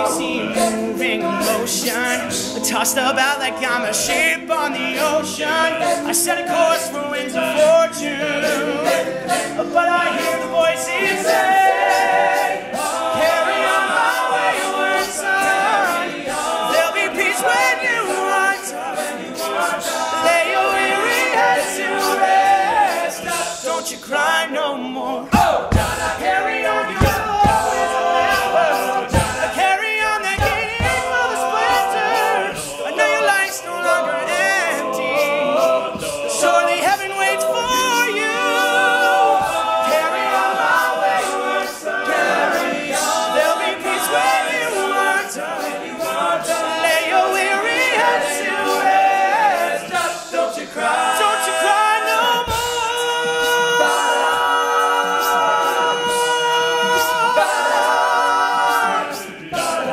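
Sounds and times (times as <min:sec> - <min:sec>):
male a cappella group singing: 0:00.0 - 0:59.9
percussive vocal beat: 0:00.0 - 0:59.9.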